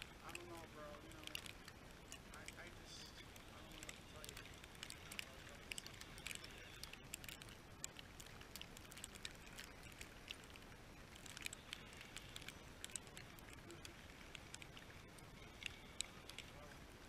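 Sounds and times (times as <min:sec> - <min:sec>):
faint hiss: 0:00.0 - 0:17.0
light ticks: 0:00.0 - 0:17.0.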